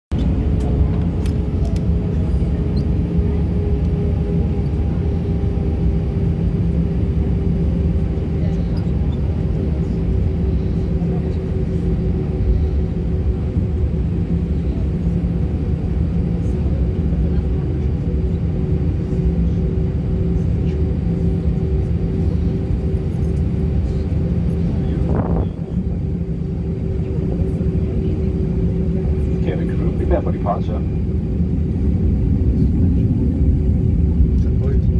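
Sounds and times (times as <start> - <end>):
jet engine whine: 0.1 - 34.9
low cabin rumble: 0.1 - 34.9.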